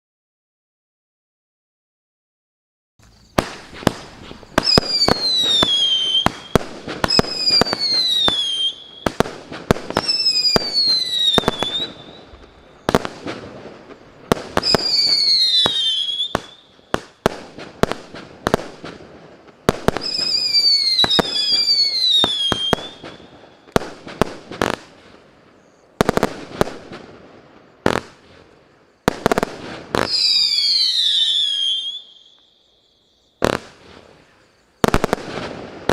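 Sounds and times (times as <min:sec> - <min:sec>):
fireworks launch pops: 0:03.0 - 0:32.6, 0:33.4 - 0:35.9
falling firework whistles: 0:03.0 - 0:35.9.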